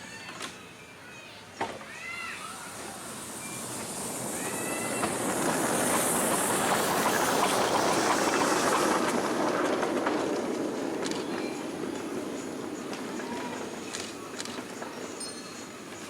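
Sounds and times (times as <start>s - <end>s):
wheels clattering over rail joints: 2.7s - 16.0s.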